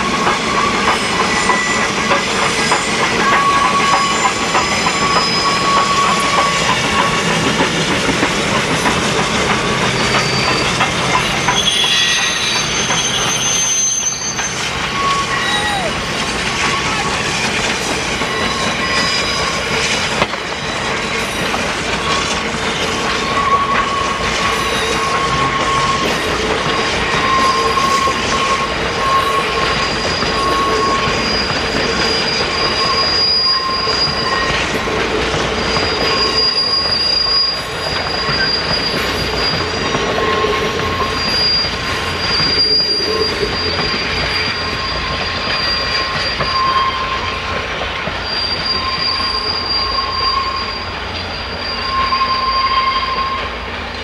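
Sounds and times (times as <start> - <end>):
train rumble: 0.0 - 54.0
wheels squealing on rails: 0.0 - 54.0.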